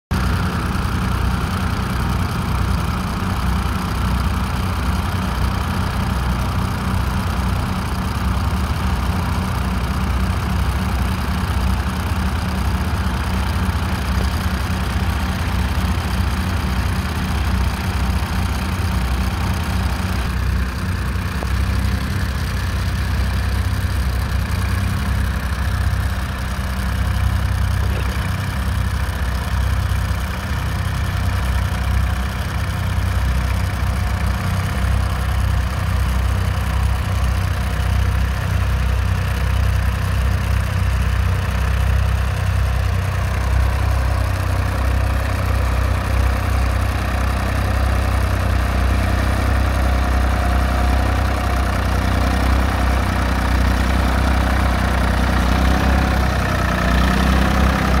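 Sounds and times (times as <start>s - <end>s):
tractor diesel engine running: 0.1s - 58.0s.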